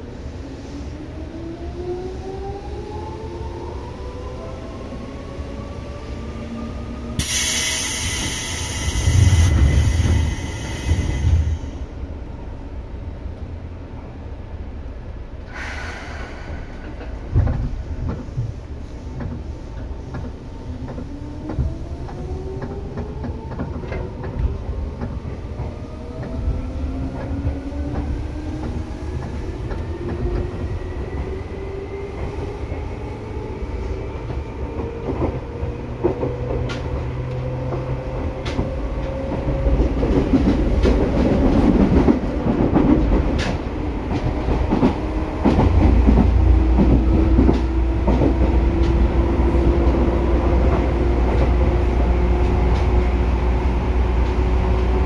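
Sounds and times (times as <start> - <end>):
train wheels rumbling: 1.4 - 14.1, 14.9 - 55.0.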